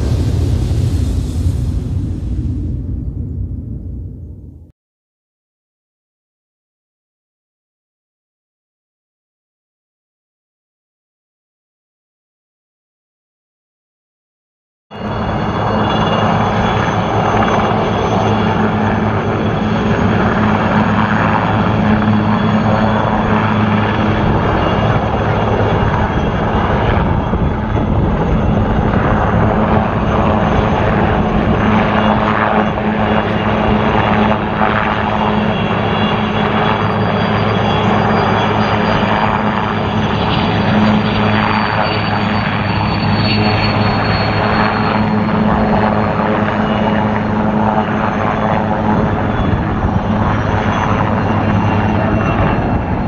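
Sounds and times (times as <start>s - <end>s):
helicopters droning: 0.0s - 4.7s, 14.9s - 53.0s
high whine sliding downward: 0.0s - 4.7s, 15.0s - 53.0s.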